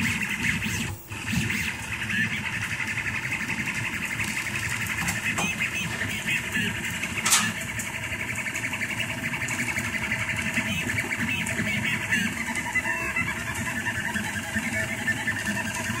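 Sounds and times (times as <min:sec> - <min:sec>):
cooling fans humming: 0:00.0 - 0:16.0
stepper motors whirring: 0:00.0 - 0:16.0.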